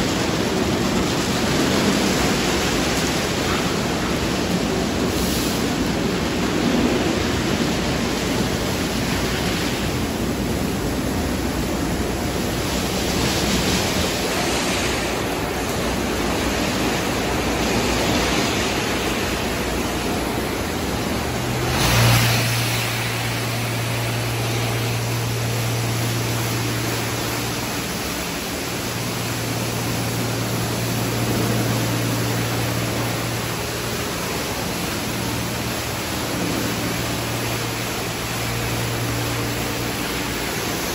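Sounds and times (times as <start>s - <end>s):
car wash water spray and brushes: 0.0s - 40.9s
low machine hum: 0.0s - 40.9s.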